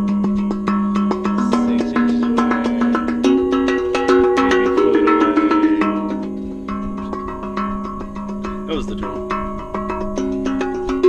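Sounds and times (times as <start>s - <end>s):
steel tongue drum notes: 0.0s - 11.0s.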